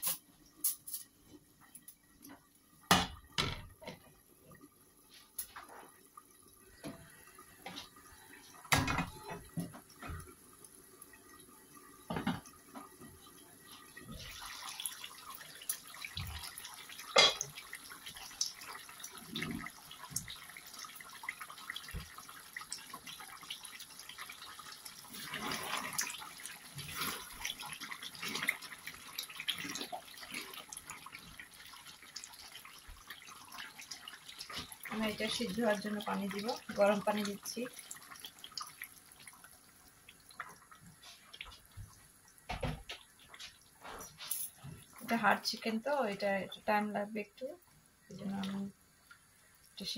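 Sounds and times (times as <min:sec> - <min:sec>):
curry bubbling and sizzling in pan: 0:01.1 - 0:49.9.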